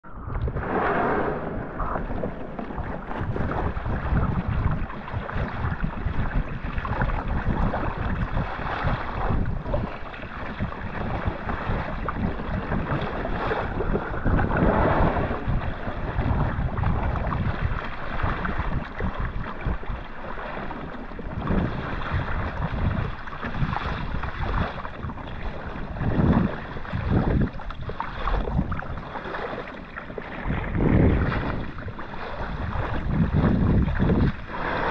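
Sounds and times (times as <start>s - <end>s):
water sloshing against hull: 0.0s - 34.9s
wind buffeting microphone: 0.0s - 34.9s.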